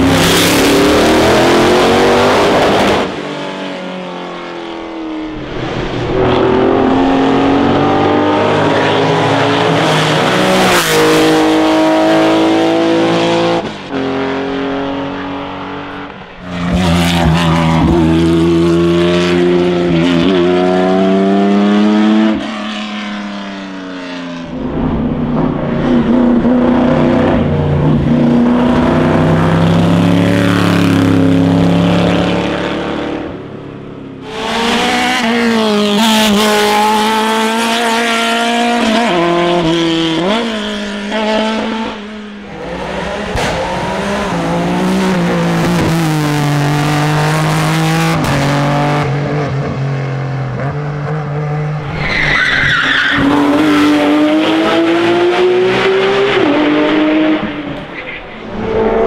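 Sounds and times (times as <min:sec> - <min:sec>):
racing car engines at full throttle: 0:00.0 - 0:59.0.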